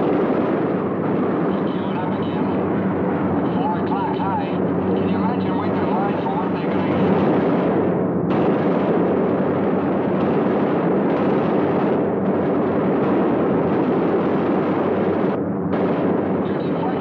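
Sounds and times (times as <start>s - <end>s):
bomber engines droning: 0.0s - 17.0s
dense gunfire: 0.0s - 17.0s.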